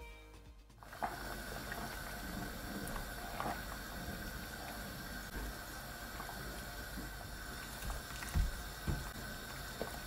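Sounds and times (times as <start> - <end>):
faint steady hum: 0.8 - 10.0
wooden spoon stirring a pot: 0.8 - 10.0.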